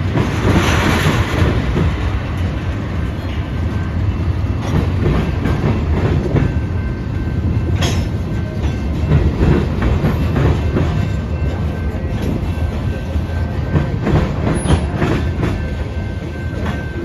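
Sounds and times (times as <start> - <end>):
rail clicks: 0.0 - 17.0
train wheels rumbling on rails: 0.0 - 17.0.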